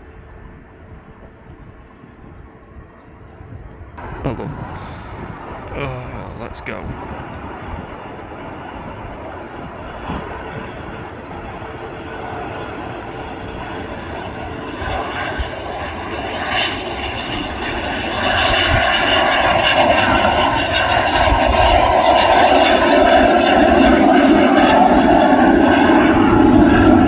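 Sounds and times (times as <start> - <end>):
jet engines roaring: 4.0 - 5.8, 6.4 - 27.0.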